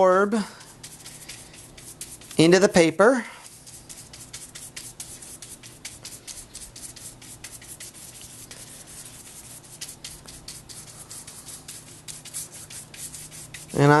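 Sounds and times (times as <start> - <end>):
scratchy paintbrush strokes on paper: 0.3 - 14.0.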